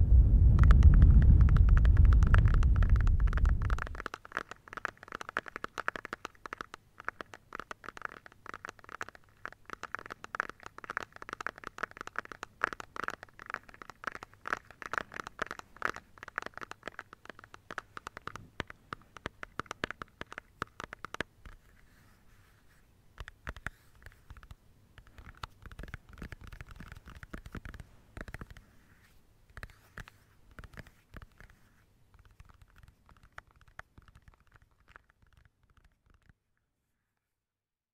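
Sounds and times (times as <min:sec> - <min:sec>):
rapid tapping on plastic: 0:00.6 - 0:22.1, 0:23.2 - 0:28.7, 0:29.5 - 0:36.4.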